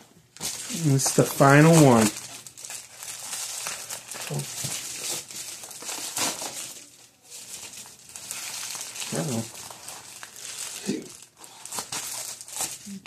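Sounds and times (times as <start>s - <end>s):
packaging crinkling: 0.3s - 13.0s.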